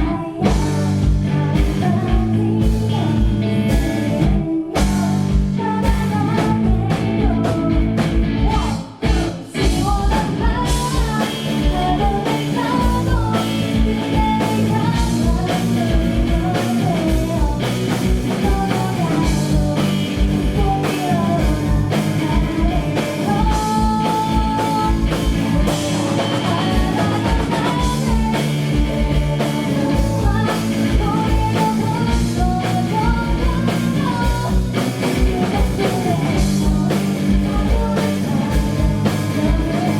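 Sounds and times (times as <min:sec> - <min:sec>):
live heavy metal band: 0:00.0 - 0:39.9
person singing lead vocals: 0:00.0 - 0:39.9.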